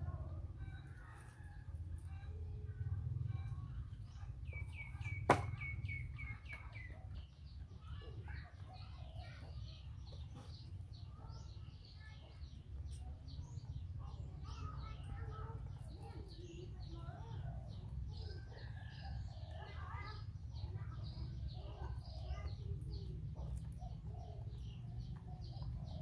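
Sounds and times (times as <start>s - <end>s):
birds calling: 3.3s - 26.0s.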